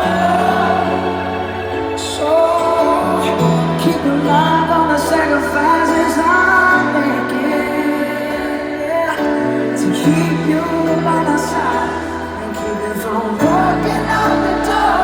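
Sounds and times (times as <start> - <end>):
live pop ballad singing: 0.0 - 15.0.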